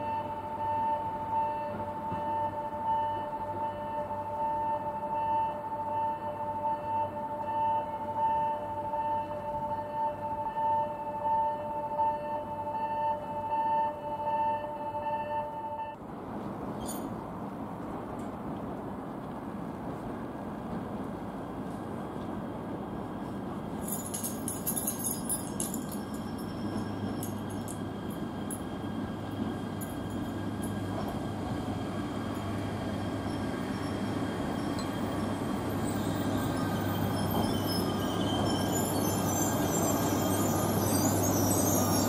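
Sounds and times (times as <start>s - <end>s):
train rumble: 0.0s - 42.0s.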